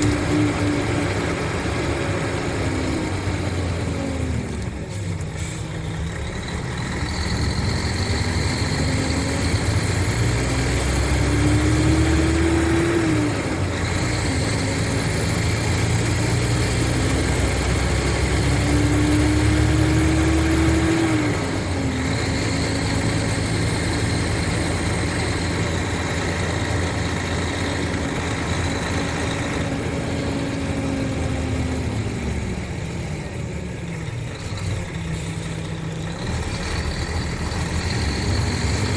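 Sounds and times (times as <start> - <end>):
diesel bus engine under load: 0.0 - 38.9.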